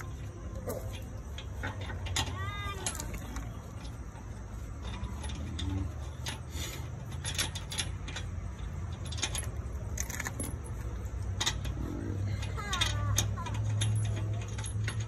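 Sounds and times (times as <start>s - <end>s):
lug nuts clinking: 0.0s - 15.0s.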